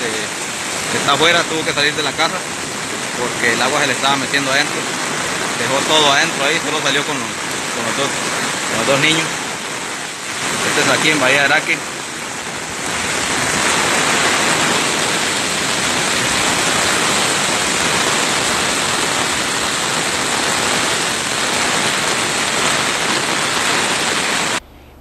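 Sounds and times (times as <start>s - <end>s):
floodwater rushing across road: 0.0s - 24.6s
heavy rain falling: 0.0s - 24.7s.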